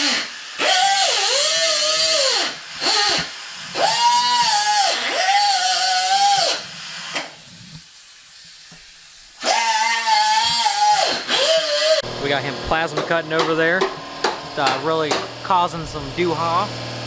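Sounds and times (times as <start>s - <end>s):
power tool whining: 0.0s - 6.7s, 9.4s - 17.0s.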